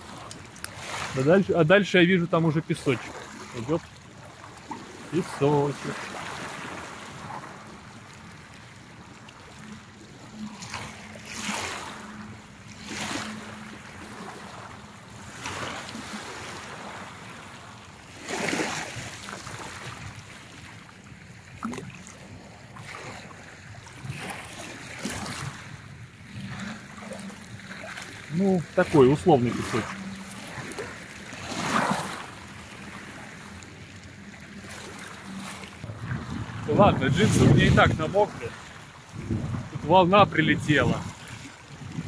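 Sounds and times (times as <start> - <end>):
splashing of wading person: 0.0 - 42.0
waves washing over pebbles: 0.0 - 42.0.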